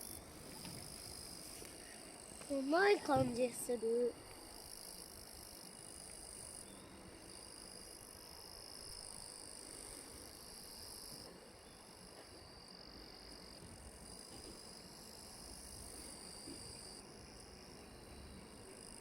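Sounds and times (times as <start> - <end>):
low background hiss: 0.0 - 19.0.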